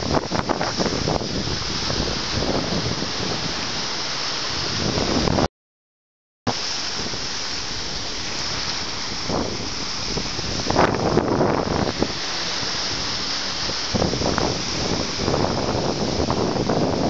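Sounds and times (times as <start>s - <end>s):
surf at the shore: 0.0s - 5.5s, 6.5s - 17.0s
wind buffeting microphone: 0.0s - 5.5s, 6.9s - 17.0s.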